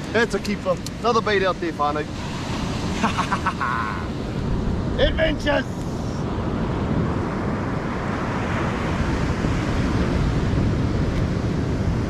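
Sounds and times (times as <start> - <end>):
surf washing: 0.0 - 12.0
wind buffeting microphone: 0.0 - 12.0.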